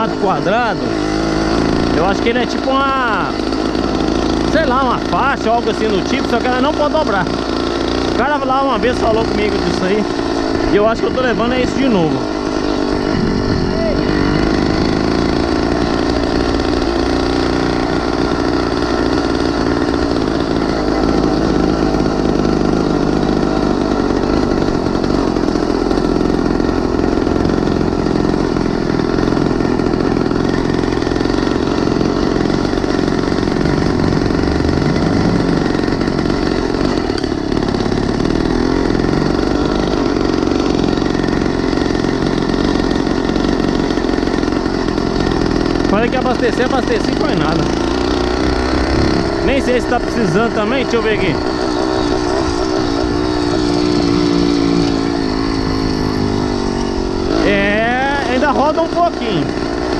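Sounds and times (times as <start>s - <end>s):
mini bike engine running: 0.0s - 59.9s.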